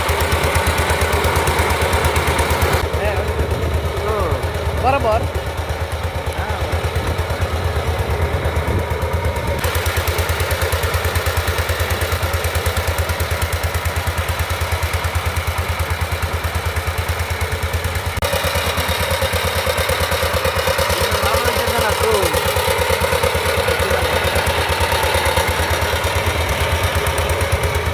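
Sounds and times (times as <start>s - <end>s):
diesel engine chugging: 0.0s - 27.9s.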